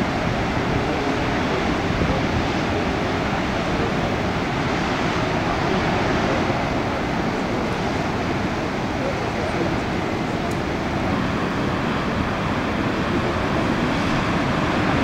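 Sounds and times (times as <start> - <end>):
ocean surf: 0.0 - 15.0.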